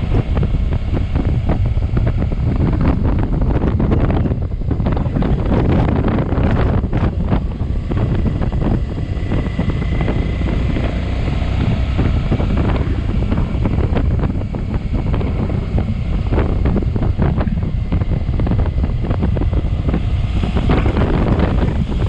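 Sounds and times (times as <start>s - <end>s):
motorcycle engine: 0.0s - 22.0s
road noise: 0.0s - 22.0s
wind buffeting microphone: 0.0s - 22.0s.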